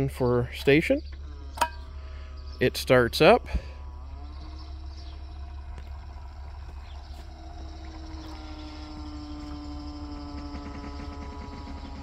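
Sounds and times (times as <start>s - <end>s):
electric motor humming: 0.8s - 12.0s.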